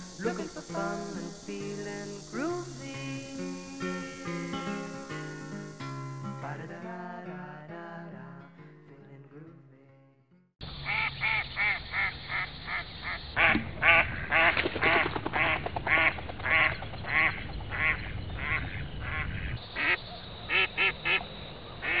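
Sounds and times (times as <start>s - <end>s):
short repeated pitched calls: 0.0s - 6.7s, 10.6s - 22.0s.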